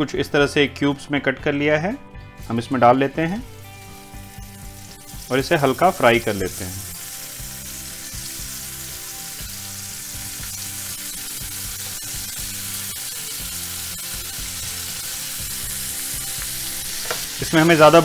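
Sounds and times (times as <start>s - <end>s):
soft background music: 0.0s - 18.0s
paneer sizzling in hot oil: 3.3s - 18.0s.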